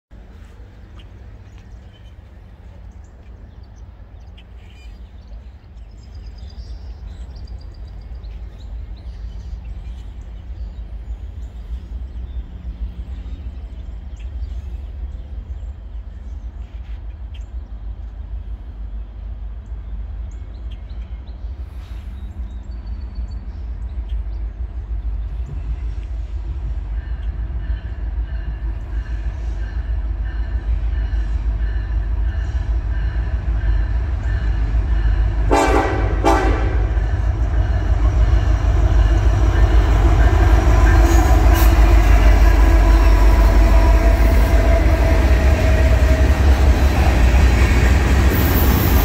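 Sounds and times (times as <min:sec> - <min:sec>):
diesel locomotive rumble: 0:00.1 - 0:49.0
birds chirping: 0:00.5 - 0:49.0.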